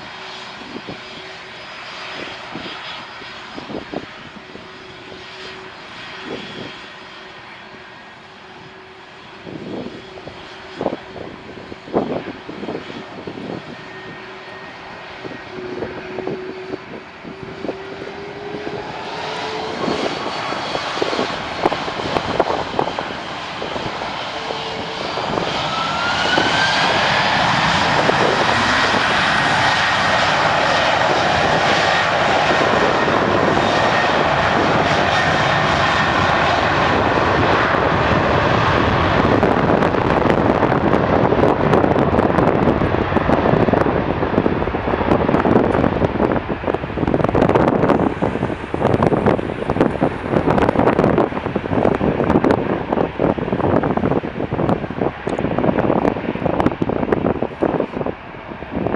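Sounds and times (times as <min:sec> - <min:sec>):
jet engines spooling up: 0:00.0 - 0:58.9.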